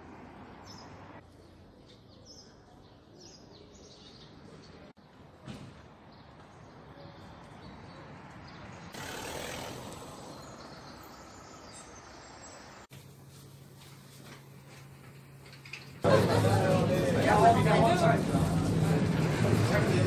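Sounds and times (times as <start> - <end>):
faint city ambience: 0.0 - 20.0.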